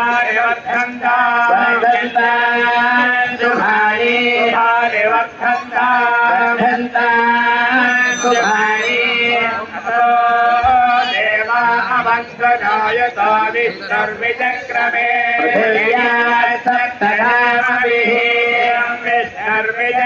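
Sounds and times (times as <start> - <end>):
male voices chanting: 0.0 - 20.0.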